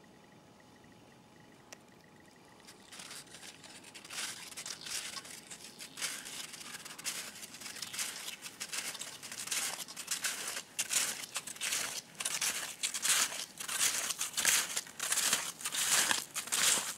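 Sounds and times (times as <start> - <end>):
snowshoe steps crunching snow: 2.7 - 16.9.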